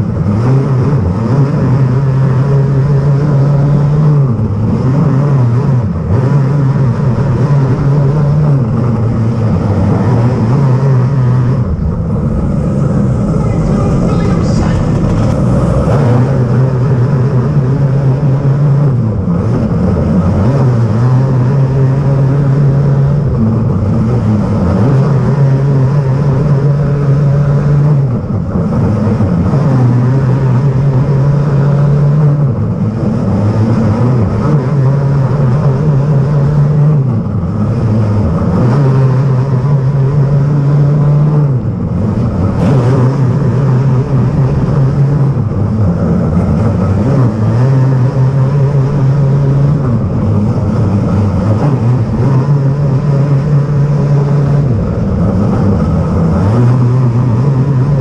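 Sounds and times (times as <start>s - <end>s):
kart engine: 0.0s - 58.0s.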